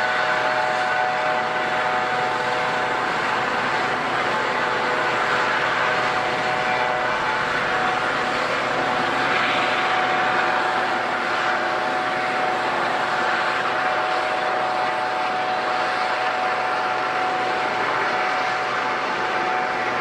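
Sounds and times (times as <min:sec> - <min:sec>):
airliner engines running: 0:00.0 - 0:20.0.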